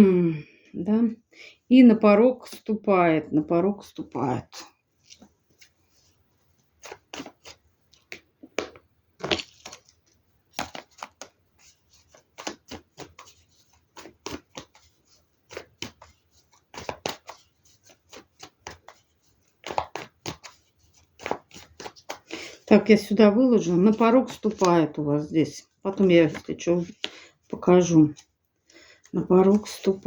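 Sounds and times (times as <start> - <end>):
cards being shuffled: 5.0 - 28.4, 29.0 - 30.0.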